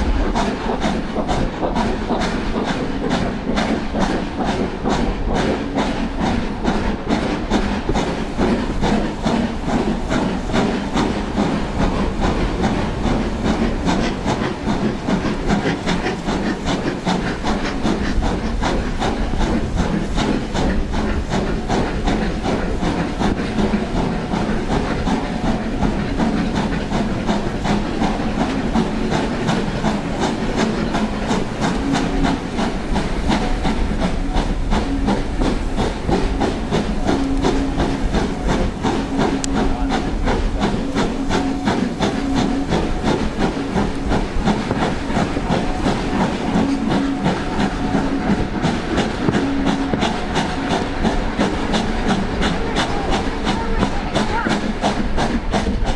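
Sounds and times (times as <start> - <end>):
steam locomotive exhaust beats: 0.0 - 55.9
train wheels on rails: 0.0 - 55.9.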